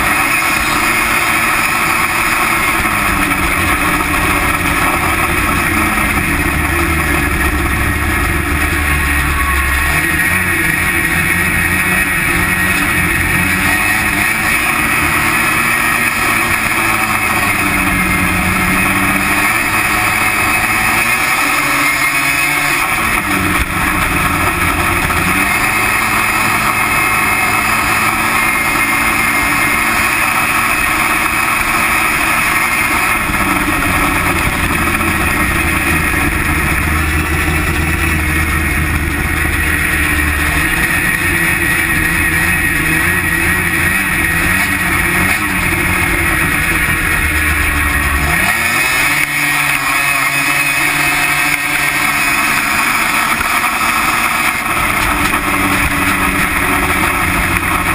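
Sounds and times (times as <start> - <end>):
drive clutches and belt spinning: 0.0 - 57.9
snowmobile engine at high revs: 0.0 - 57.9.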